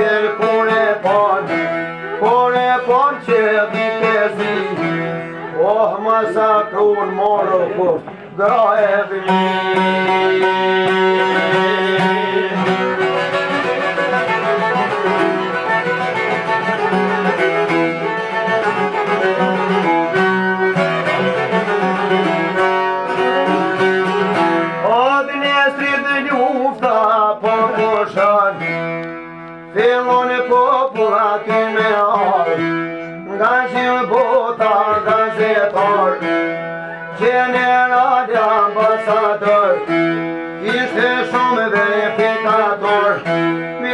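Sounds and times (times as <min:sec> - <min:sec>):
bowed string instrument: 0:00.0 - 0:43.9
man singing: 0:00.0 - 0:43.9
plucked lute: 0:00.0 - 0:43.9.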